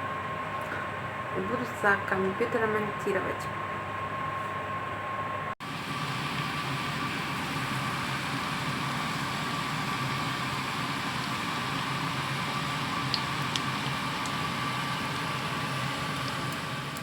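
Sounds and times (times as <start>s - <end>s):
mechanical hum with high whine: 0.0s - 17.0s.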